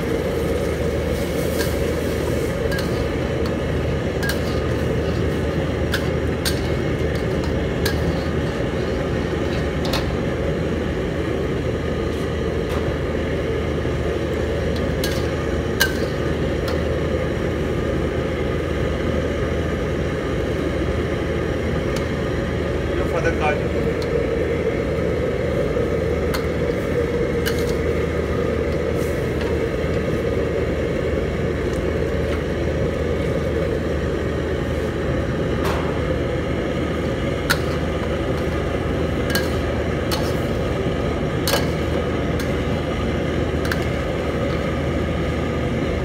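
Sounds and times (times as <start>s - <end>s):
gas burner roaring: 0.0s - 46.0s.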